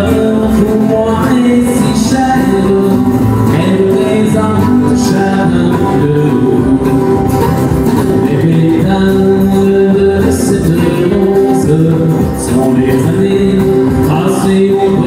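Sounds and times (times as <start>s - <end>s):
acoustic guitars strummed: 0.0s - 15.0s
man singing into a microphone: 0.0s - 15.0s.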